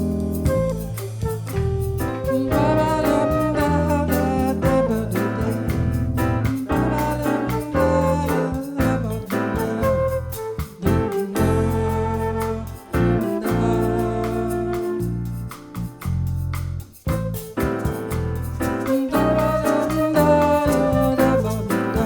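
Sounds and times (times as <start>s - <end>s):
bass: 0.0s - 22.0s
jazz group playing bossa nova: 0.0s - 22.0s
piano: 0.0s - 22.0s.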